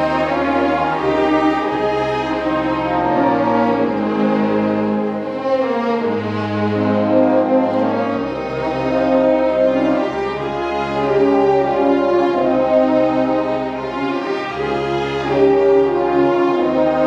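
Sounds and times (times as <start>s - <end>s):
bowed strings: 0.0s - 17.0s
brass and saxophones: 0.0s - 17.0s.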